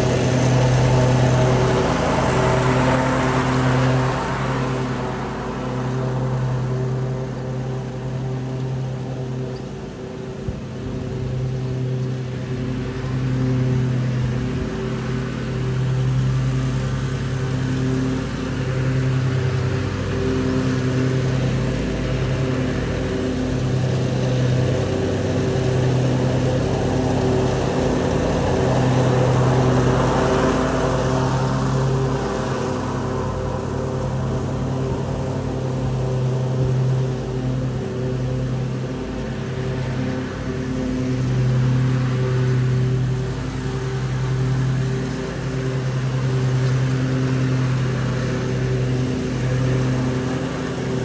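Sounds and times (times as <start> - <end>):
lawn mower engine running: 0.0 - 51.0.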